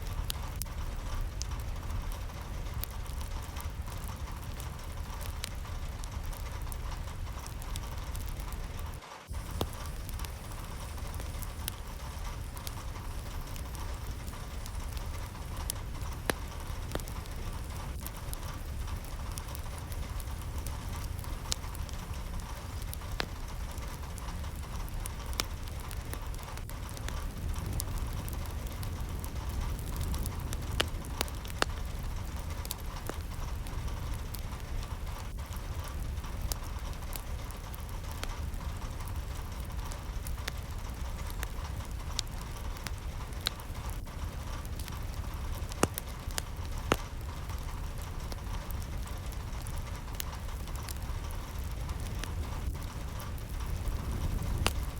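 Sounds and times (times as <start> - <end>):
low rumble: 0.0 - 54.9
steady rain hiss: 0.0 - 54.9.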